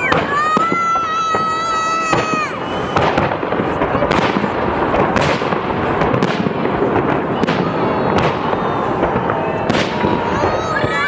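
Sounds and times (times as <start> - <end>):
fireworks crackling and booming: 0.0 - 11.0
sharp firework bangs: 0.0 - 11.0.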